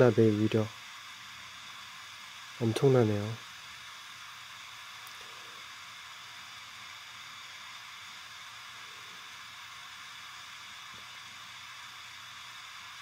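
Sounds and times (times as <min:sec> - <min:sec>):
jet-torch lighter hissing: 0:00.0 - 0:13.0.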